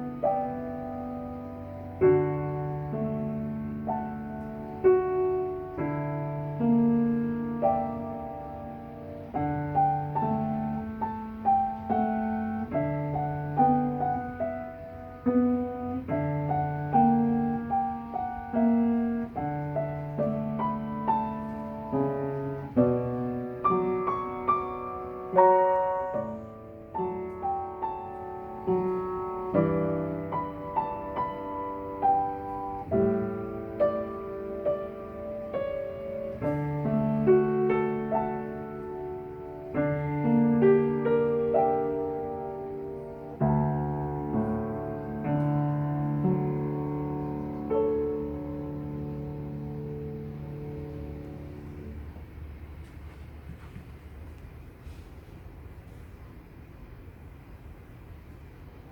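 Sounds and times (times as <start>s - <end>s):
solo piano playing: 0.0s - 52.9s.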